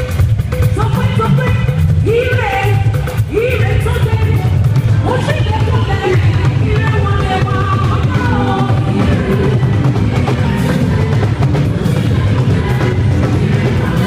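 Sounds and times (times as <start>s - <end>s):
music with drums and heavy bass: 0.0s - 14.0s.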